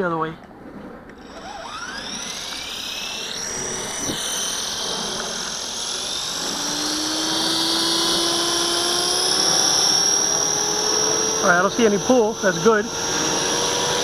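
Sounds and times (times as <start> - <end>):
rotor blades humming: 0.8 - 14.0
electric motor whine: 1.0 - 14.0.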